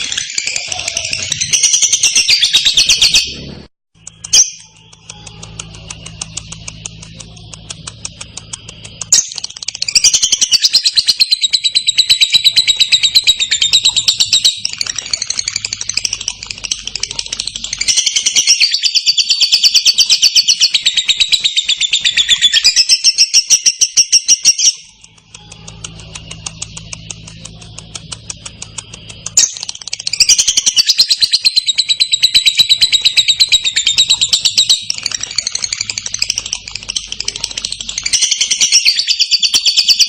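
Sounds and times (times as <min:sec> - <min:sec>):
lovebird chattering trill: 0:04.0 - 0:40.0.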